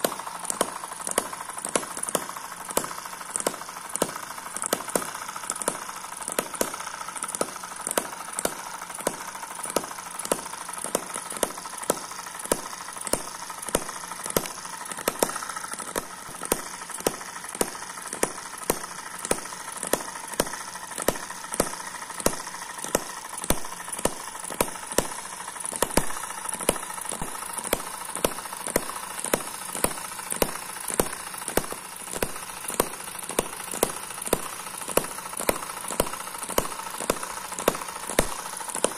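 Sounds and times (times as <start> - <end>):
model engine firing pops: 0.0 - 38.9.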